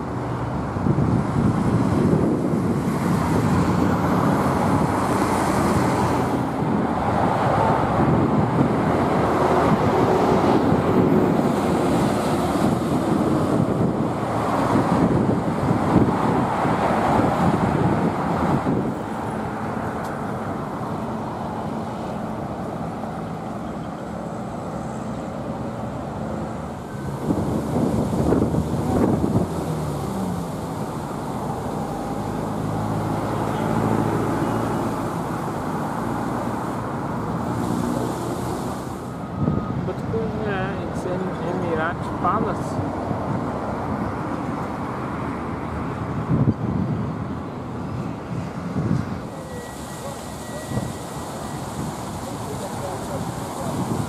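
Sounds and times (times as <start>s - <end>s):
cars passing by: 0.0s - 54.0s
low traffic hum: 0.0s - 54.0s.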